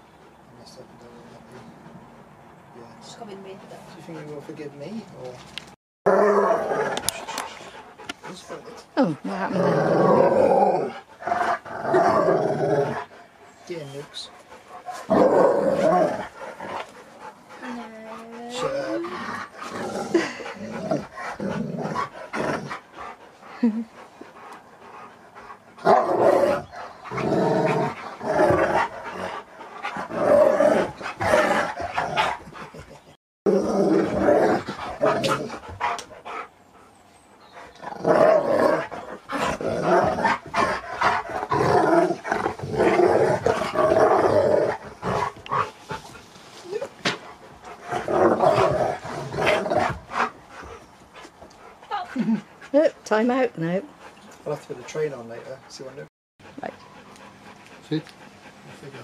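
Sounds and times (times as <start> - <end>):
dogs growling: 6.1 - 59.0.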